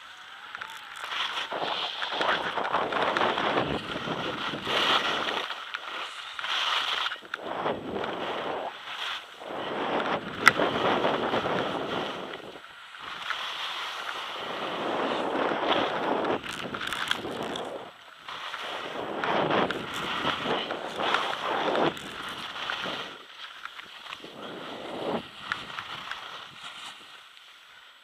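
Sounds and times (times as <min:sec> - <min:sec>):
skis scraping on packed snow: 0:00.0 - 0:28.0
wind rushing over microphone: 0:01.3 - 0:05.5, 0:07.2 - 0:13.3, 0:14.0 - 0:23.3, 0:24.0 - 0:27.1.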